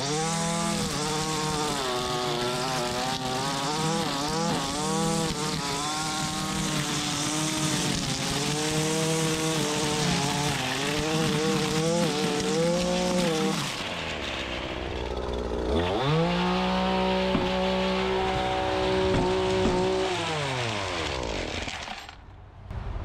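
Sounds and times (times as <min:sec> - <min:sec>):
brush trimmer engine running: 0:00.0 - 0:22.2
trimmer string whipping grass: 0:00.0 - 0:22.2.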